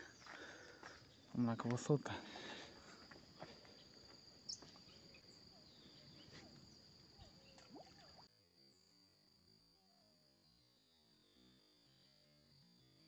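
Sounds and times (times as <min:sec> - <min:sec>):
faint insect buzz: 0:00.0 - 0:13.0.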